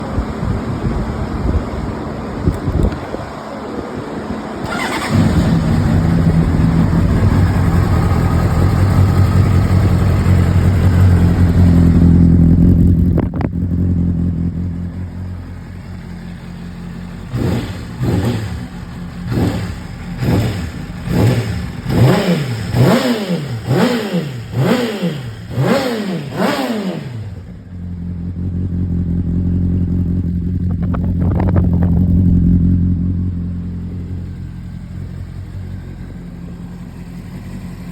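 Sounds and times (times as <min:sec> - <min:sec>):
motorcycle engine revving: 0:04.6 - 0:37.9.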